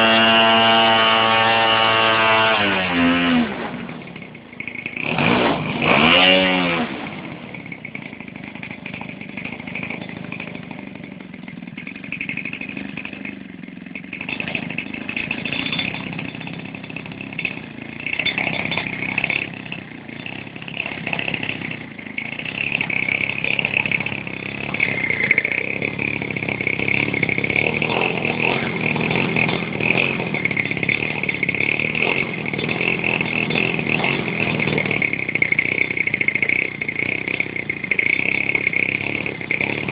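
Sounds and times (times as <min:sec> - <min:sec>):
model airplane engine buzzing: 0:00.0 - 0:39.9.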